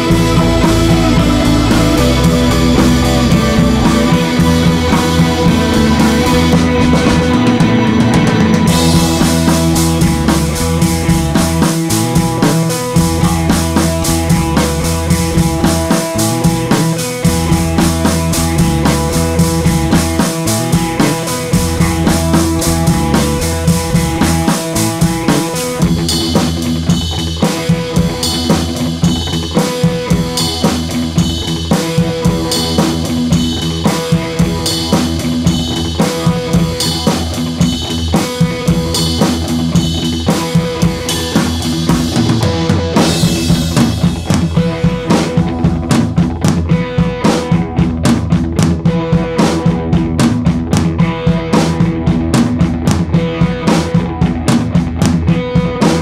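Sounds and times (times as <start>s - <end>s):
background music with drum beat: 0.0s - 56.0s.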